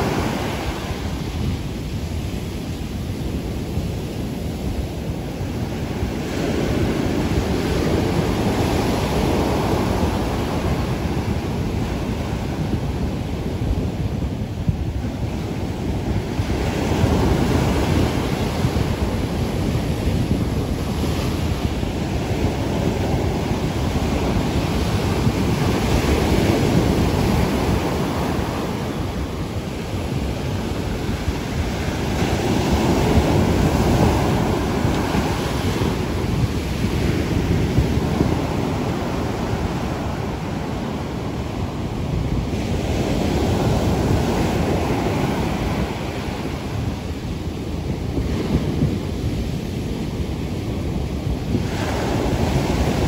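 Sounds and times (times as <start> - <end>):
surf crashing on beach: 0.0 - 53.0.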